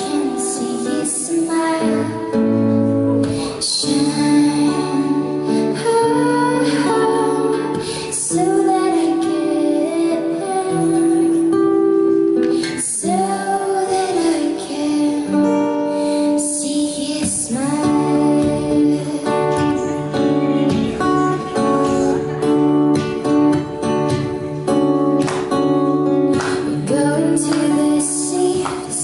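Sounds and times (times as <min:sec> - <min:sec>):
woman singing: 0:00.0 - 0:23.1, 0:26.3 - 0:29.0
acoustic guitar: 0:00.0 - 0:29.0.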